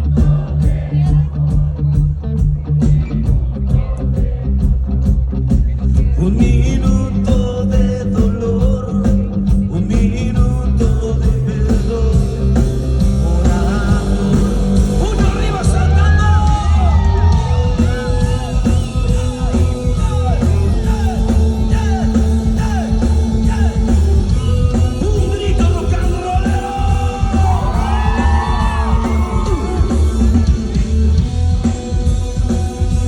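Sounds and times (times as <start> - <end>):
bass: 0.0 - 33.0
heavy drums: 0.0 - 33.0
rock band playing live: 0.0 - 33.0
voices singing and yelling: 0.0 - 33.0.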